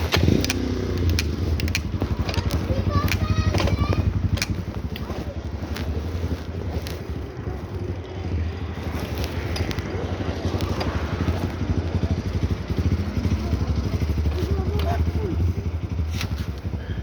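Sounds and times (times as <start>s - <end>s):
engine rumble with flutter: 0.0s - 17.0s.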